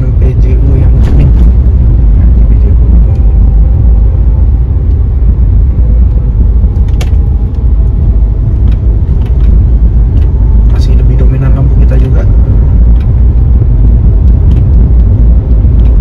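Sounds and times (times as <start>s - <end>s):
engine and road noise rumble: 0.0s - 16.0s.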